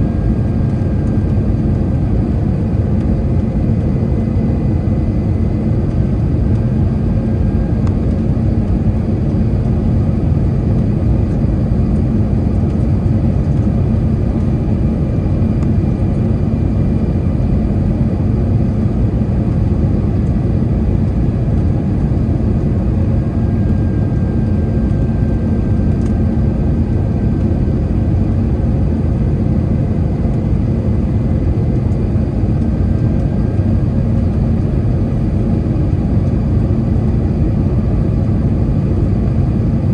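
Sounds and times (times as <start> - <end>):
airliner engine and airflow rumble: 0.0 - 39.9.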